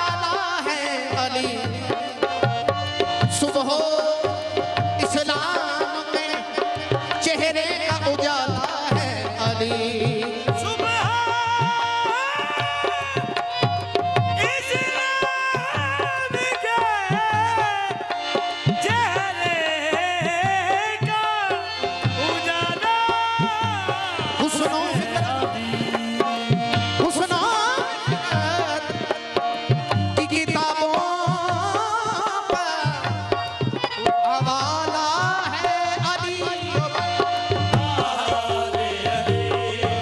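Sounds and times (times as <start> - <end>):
harmonium: 0.0 - 40.0
people singing: 0.0 - 40.0
tabla drum beat: 0.0 - 40.0.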